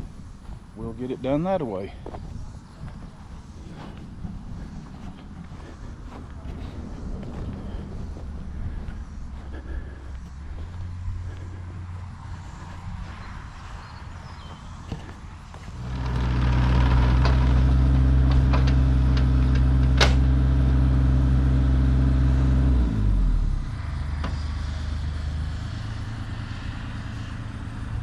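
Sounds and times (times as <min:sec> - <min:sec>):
diesel engine running: 0:03.7 - 0:13.2, 0:14.9 - 0:28.0.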